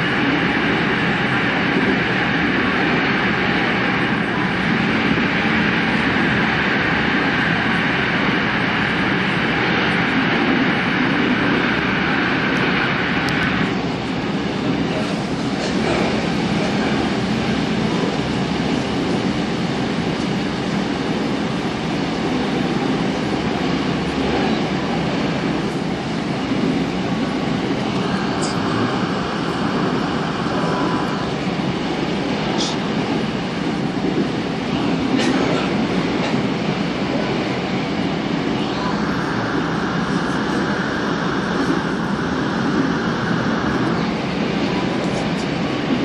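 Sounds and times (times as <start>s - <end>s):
train rumbling through tunnel: 0.0s - 46.0s.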